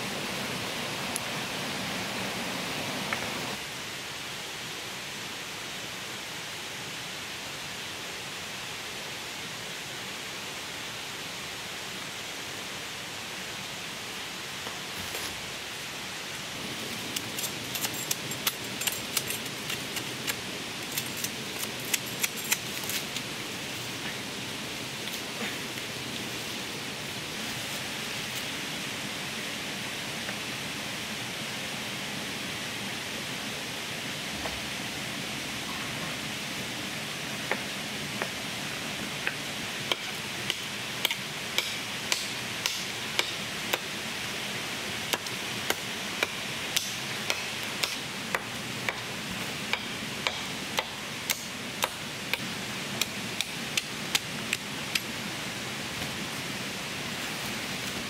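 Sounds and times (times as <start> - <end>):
rain hissing: 0.0 - 58.0.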